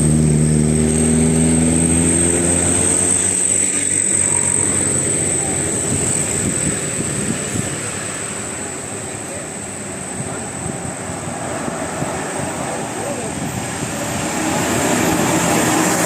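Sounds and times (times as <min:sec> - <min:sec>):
bus engine: 0:00.0 - 0:16.0
road noise: 0:00.0 - 0:16.0.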